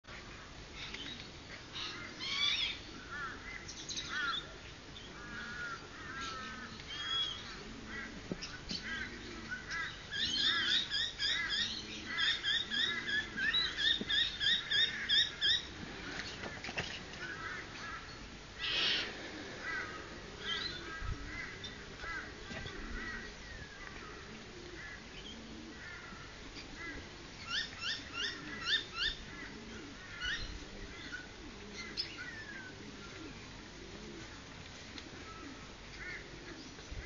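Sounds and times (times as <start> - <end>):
birds calling and chirping: 0.1 - 37.0
faint low bird calls: 0.1 - 37.0.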